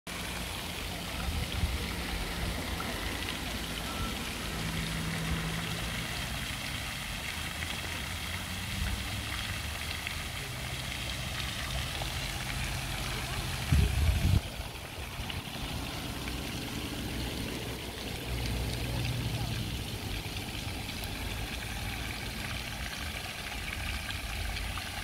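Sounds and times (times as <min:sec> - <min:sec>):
fountain water spraying: 0:00.1 - 0:25.0.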